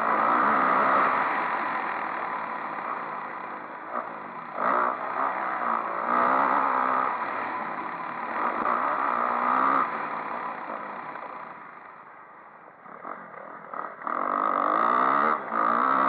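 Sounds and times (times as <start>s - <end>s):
motocross bike engine pulling hard: 0.0s - 12.1s, 12.8s - 16.0s.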